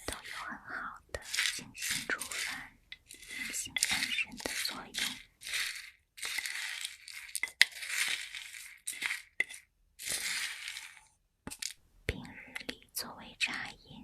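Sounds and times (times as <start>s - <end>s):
dried herbs rustling: 0.0s - 11.8s.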